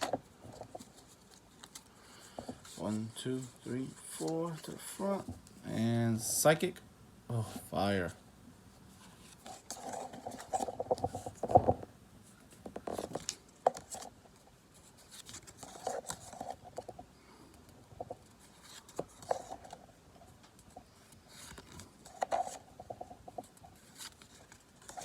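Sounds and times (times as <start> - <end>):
trading cards rustling and flicking: 0.0 - 5.3, 9.1 - 11.8, 12.5 - 25.0.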